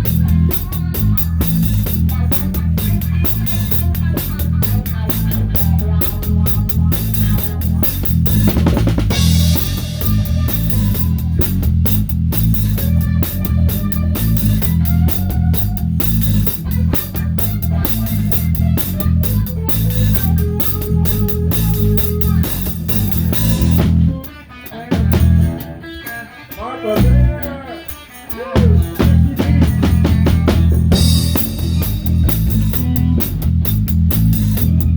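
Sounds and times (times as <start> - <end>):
rock band playing: 0.0 - 34.9
sliding guitar notes: 0.0 - 34.9.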